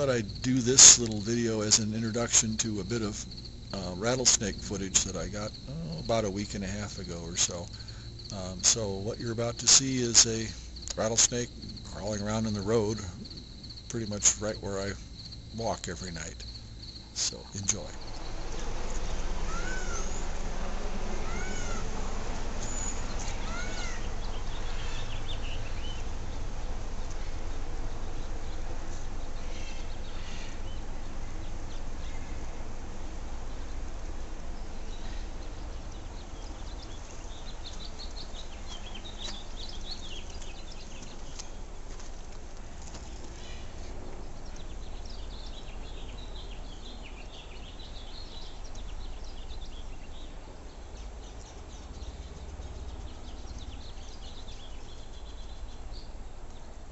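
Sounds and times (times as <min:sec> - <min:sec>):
small birds chirping: 0:00.0 - 0:56.9
steady low rumble: 0:00.0 - 0:56.9.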